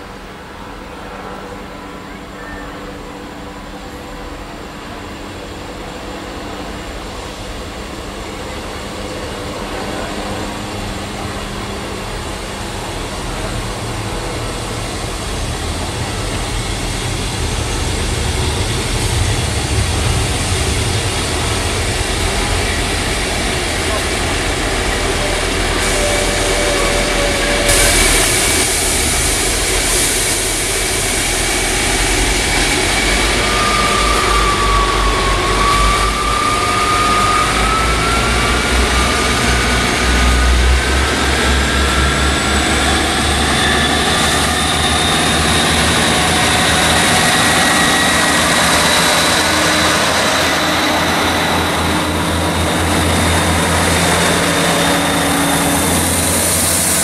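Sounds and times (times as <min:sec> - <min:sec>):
diesel train engine drone: 0:00.0 - 0:57.0
rail noise: 0:00.0 - 0:57.0
thin whine: 0:08.5 - 0:57.0.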